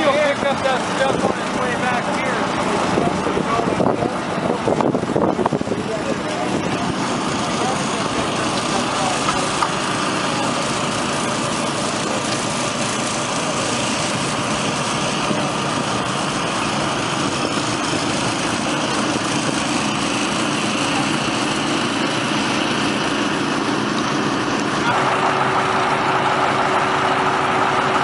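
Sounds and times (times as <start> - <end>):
water pump engines running: 0.0 - 28.0.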